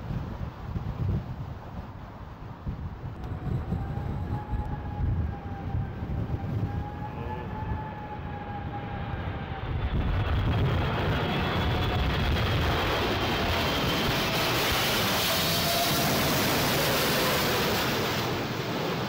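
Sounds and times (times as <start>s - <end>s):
wind rumbling on microphone: 0.0s - 19.0s
jet engines whining: 3.1s - 19.0s.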